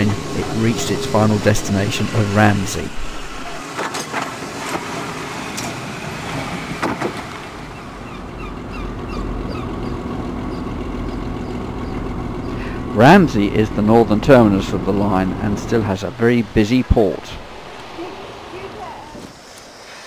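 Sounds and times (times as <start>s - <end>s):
tram motor low hum: 0.0s - 3.6s, 4.7s - 20.0s.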